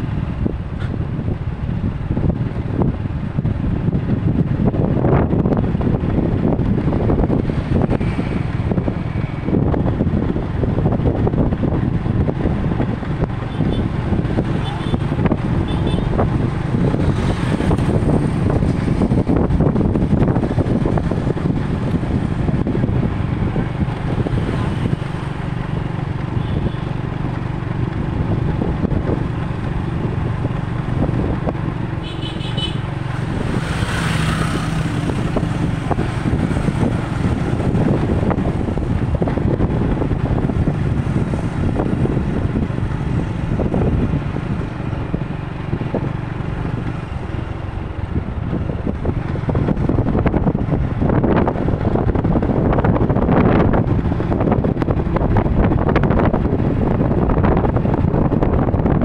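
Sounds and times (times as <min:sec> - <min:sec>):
cars and motorbikes passing: 0:00.0 - 0:59.0.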